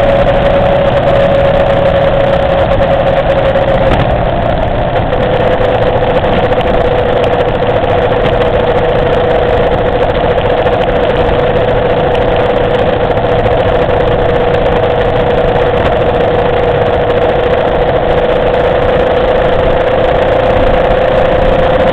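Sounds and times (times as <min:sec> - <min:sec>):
dense steady rushing noise: 0:00.0 - 0:21.9
motorcycle engine running: 0:00.0 - 0:21.9.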